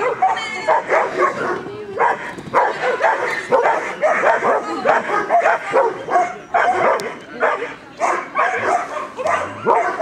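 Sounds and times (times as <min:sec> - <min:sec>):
dog barking: 0:00.0 - 0:10.0.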